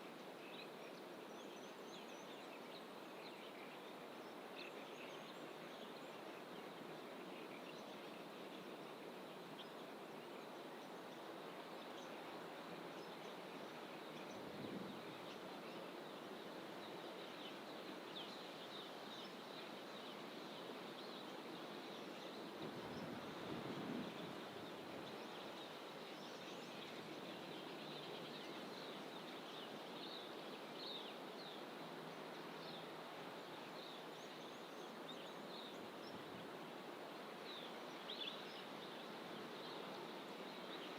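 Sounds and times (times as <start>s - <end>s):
background noise wash: 0.0s - 40.9s.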